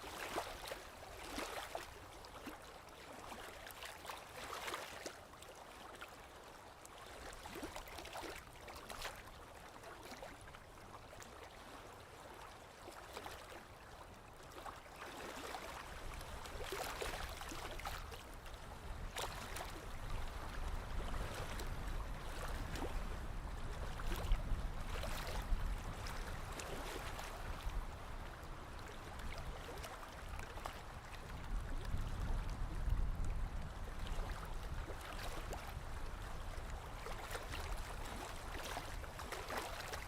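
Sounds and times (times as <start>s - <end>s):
lake waves lapping at shoreline: 0.0s - 40.0s.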